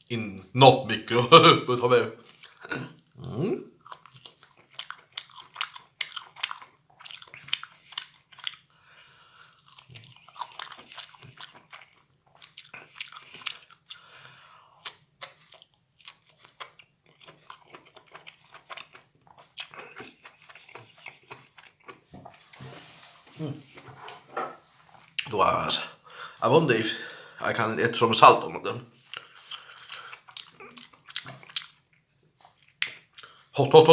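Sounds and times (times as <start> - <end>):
person chewing mushrooms: 2.2 - 27.4, 29.0 - 33.6.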